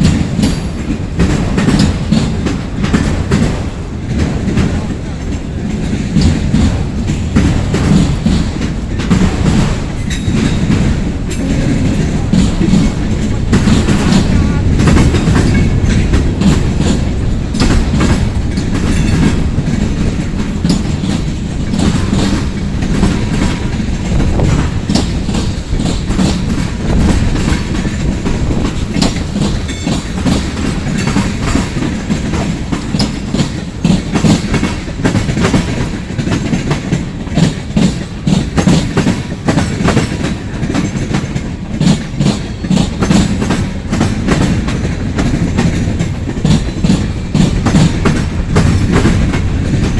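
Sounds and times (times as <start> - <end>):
freight cars rumbling: 0.0 - 49.9
wheels clacking over rail joints: 0.0 - 49.9.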